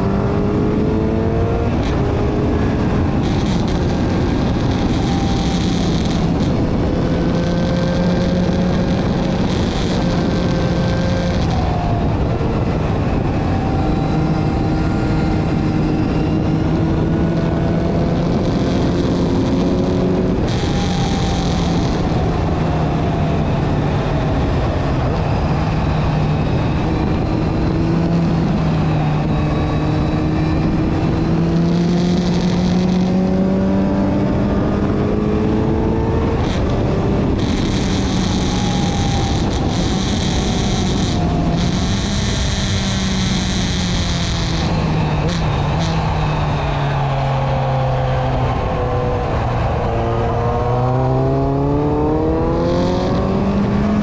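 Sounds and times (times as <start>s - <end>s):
motorcycle engine revving: 0.0s - 54.0s
rush of noise: 0.0s - 54.0s.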